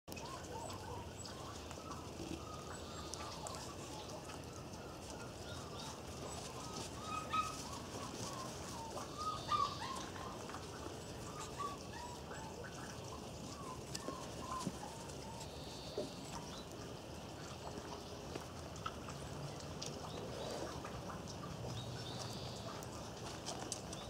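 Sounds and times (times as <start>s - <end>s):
puppies squeaking and yelping: 0.1s - 24.0s.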